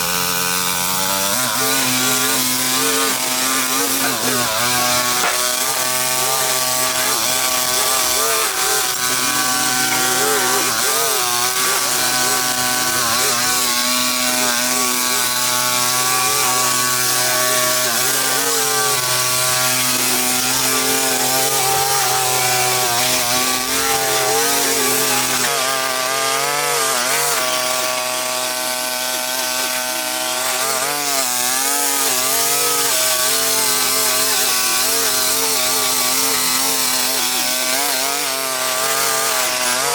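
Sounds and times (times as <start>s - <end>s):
small petrol engine high revs: 0.0s - 39.9s.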